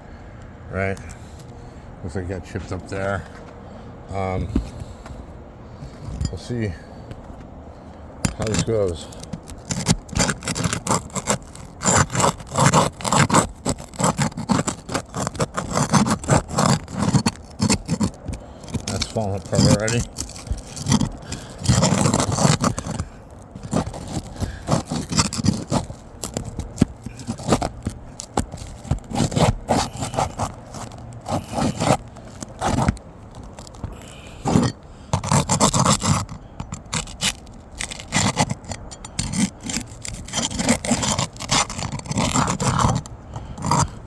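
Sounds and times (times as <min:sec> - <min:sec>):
roof shingles scraping and crackling: 0:08.2 - 0:44.0.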